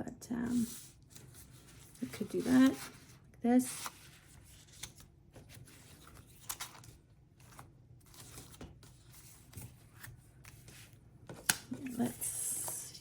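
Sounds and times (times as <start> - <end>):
paper cards rustling: 0.6 - 3.1, 3.7 - 12.8.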